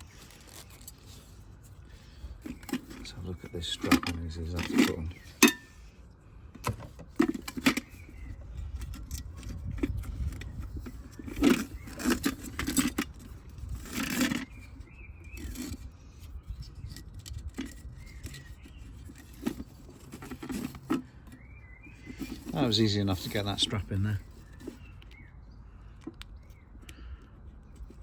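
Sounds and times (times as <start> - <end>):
strap rustling scrape: 0.0 - 5.9, 7.0 - 25.0.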